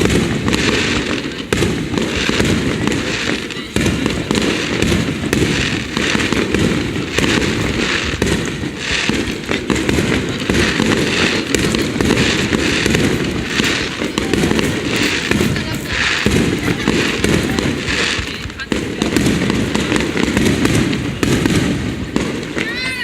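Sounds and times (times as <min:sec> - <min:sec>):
firework hissing: 0:00.0 - 0:23.0
fireworks barrage: 0:00.0 - 0:23.0
sharp firework cracks: 0:00.0 - 0:23.0.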